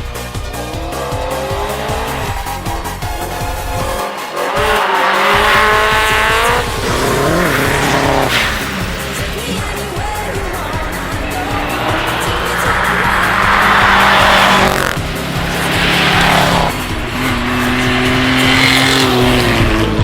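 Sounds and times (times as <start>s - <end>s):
dance music with steady beat: 0.0s - 20.0s
rally car engine revving: 0.0s - 20.0s.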